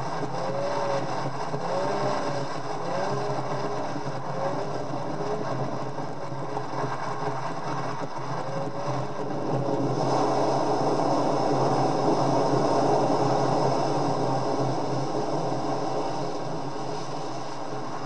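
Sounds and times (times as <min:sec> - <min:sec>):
car engine running: 0:00.0 - 0:18.0
faint whine: 0:00.0 - 0:18.0
road and wind noise: 0:00.0 - 0:18.0.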